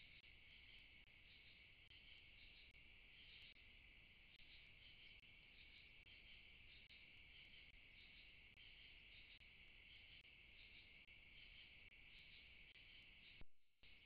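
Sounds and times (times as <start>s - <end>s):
insects chirping at night: 0.0s - 14.0s.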